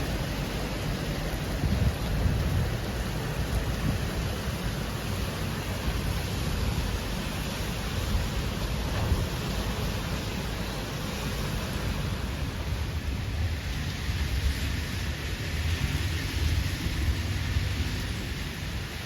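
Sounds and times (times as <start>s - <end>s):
outdoor noise: 0.0s - 19.0s
wind buffeting microphone: 0.0s - 19.0s.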